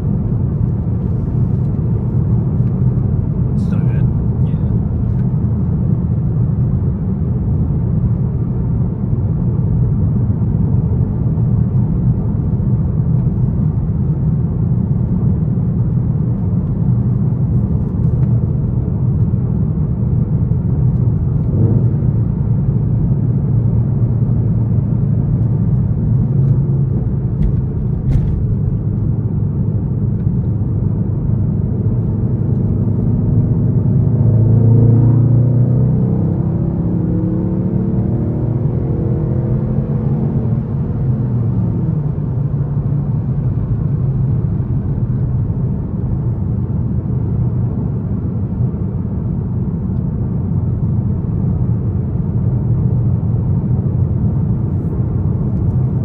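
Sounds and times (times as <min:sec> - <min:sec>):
car exhaust drone: 0:00.0 - 0:56.0.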